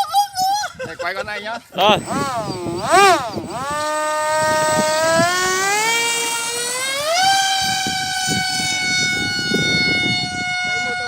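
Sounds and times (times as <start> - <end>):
model airplane motor whining: 1.8 - 11.0.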